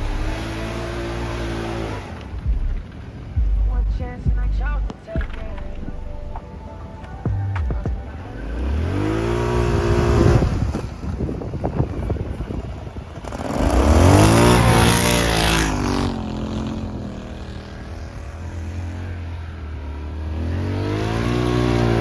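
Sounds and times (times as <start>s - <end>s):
atv engine revving: 0.0s - 6.4s, 7.4s - 22.0s.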